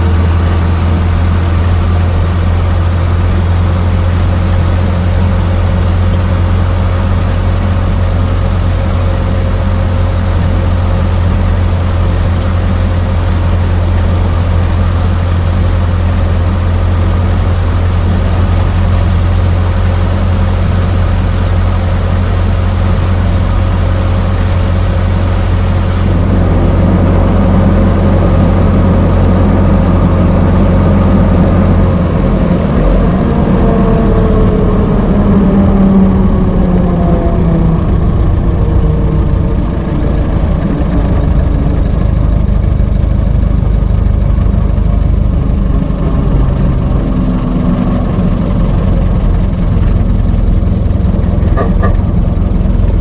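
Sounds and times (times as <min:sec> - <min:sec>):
old car engine idling: 0:00.0 - 0:53.0.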